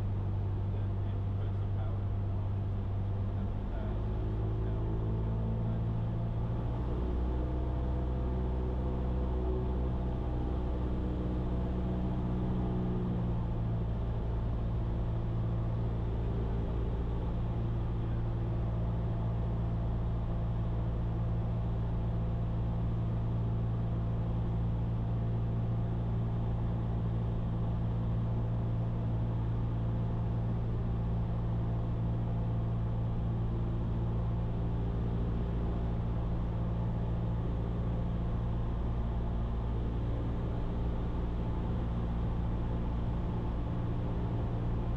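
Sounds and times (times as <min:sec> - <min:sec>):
propeller plane engine droning: 0:00.0 - 0:44.9.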